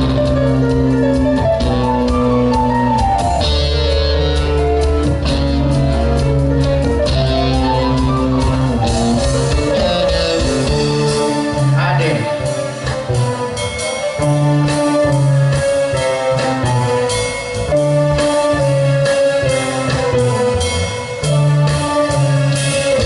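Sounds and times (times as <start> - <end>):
bass guitar: 0.0 - 23.0
guitar chords: 0.0 - 23.0.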